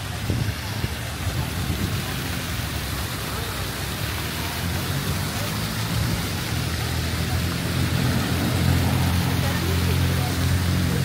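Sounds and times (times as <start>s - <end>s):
steady street hiss: 0.0s - 11.0s
low engine hum: 0.6s - 11.0s.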